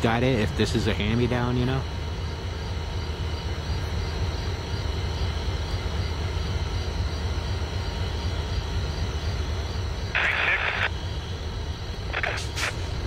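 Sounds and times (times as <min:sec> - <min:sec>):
diesel locomotives idling: 0:00.0 - 0:13.0.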